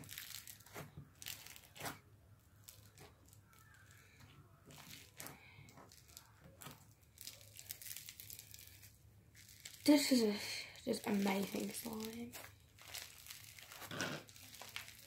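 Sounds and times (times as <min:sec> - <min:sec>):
slime squishing with sticky pops: 0:00.0 - 0:15.0.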